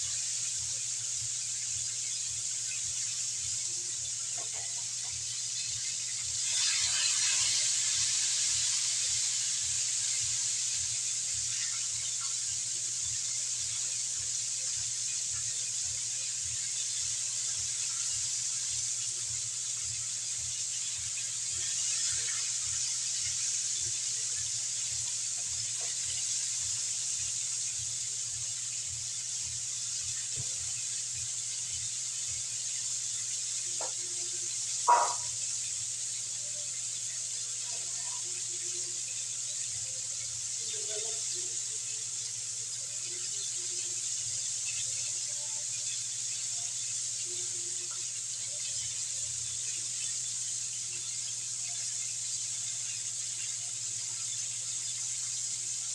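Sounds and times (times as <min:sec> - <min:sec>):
chicken sizzling in hot oil: 0:00.0 - 0:55.9.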